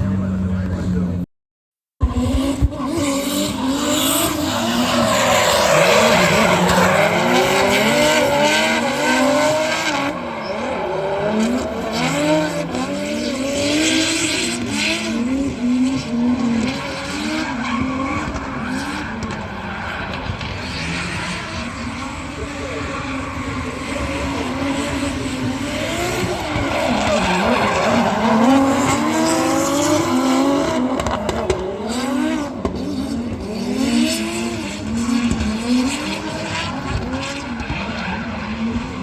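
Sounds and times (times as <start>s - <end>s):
racing engines revving: 2.0s - 39.0s.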